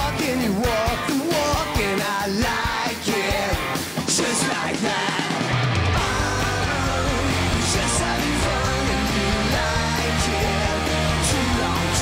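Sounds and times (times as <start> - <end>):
electric guitar: 0.0 - 12.0
rock band playing: 0.0 - 12.0.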